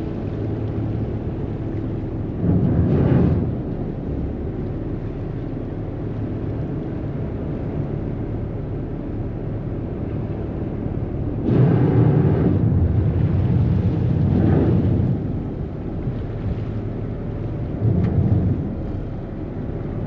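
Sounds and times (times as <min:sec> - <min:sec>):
ferry engine humming: 0:00.0 - 0:20.0
rushing churning wake: 0:00.0 - 0:20.0.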